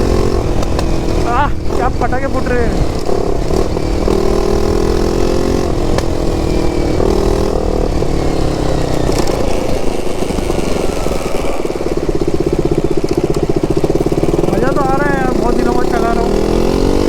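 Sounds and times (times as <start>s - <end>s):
exhaust pops: 0.0s - 4.9s, 5.6s - 16.4s
motorcycle engine running: 0.0s - 17.0s.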